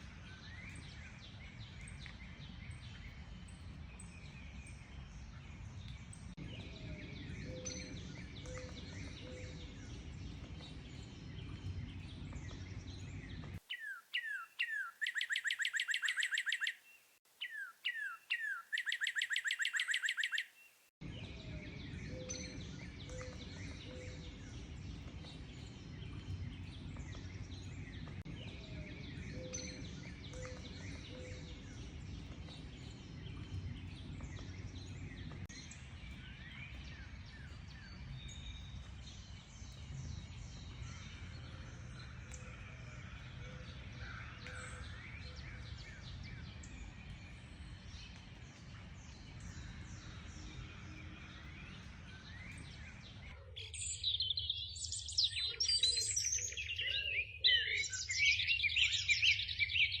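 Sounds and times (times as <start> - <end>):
dense overlapping bird song: 0.0 - 60.0
wild birds calling and singing: 0.0 - 60.0.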